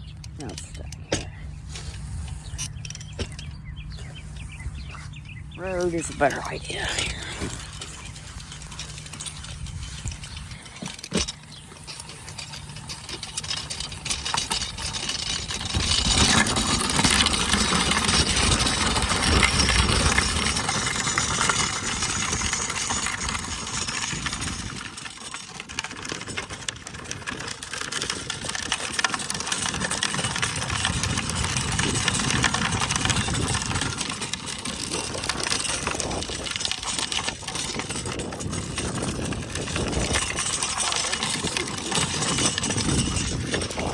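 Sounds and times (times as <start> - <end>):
trike rushing along road: 0.0 - 43.9.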